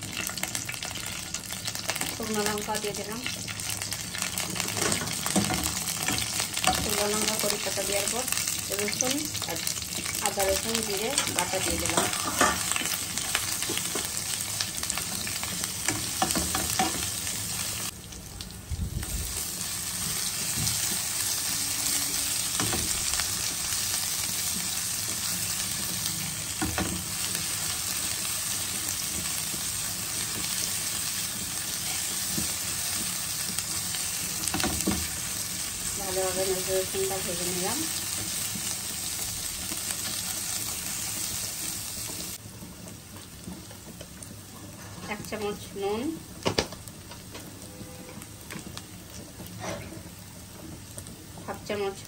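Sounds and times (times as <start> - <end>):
paste sizzling in hot oil: 0.0 - 44.4.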